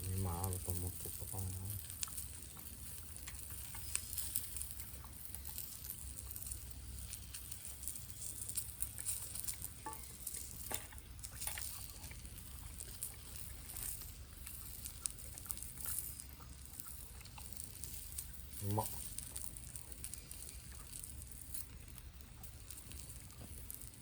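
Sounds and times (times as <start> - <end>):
meat sizzling: 0.0 - 24.0
wood fire crackling: 0.0 - 24.0.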